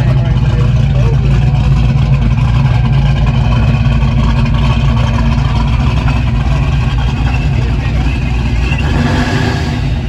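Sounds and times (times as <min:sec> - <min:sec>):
supercharged engine low rumble: 0:00.0 - 0:10.0.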